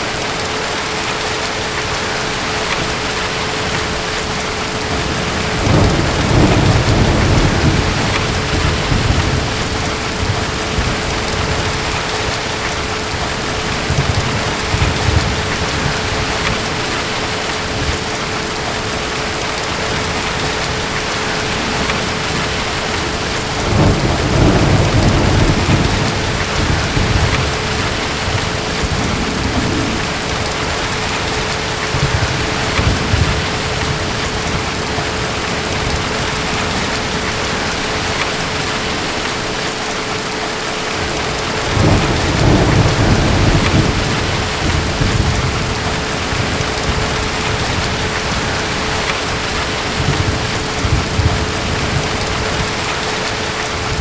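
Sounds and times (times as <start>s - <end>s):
heavy rain: 0.0s - 54.0s
distant thunder rumbling: 1.8s - 39.7s, 41.0s - 54.0s.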